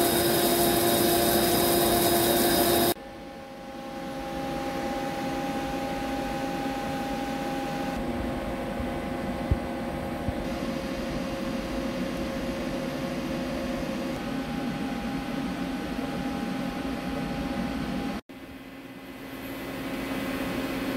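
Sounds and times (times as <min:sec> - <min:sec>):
machine shop hum with steady tones: 0:00.0 - 0:20.9.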